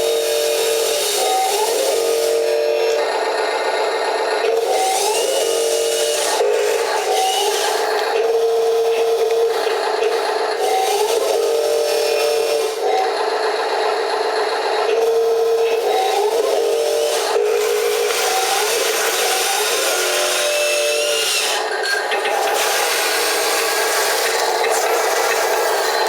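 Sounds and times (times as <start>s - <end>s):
motor whine shifting in pitch: 0.0s - 26.0s.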